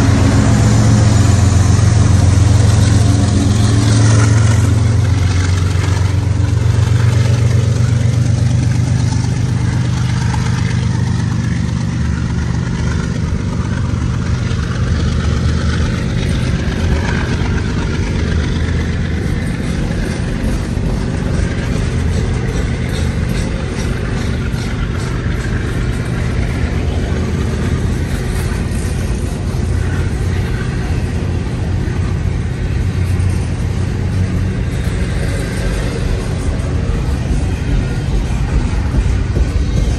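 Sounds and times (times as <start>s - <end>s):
diesel locomotive engine drone: 0.0s - 39.9s
freight cars rumbling by: 0.0s - 39.9s
wheels clicking on rails: 0.0s - 39.9s.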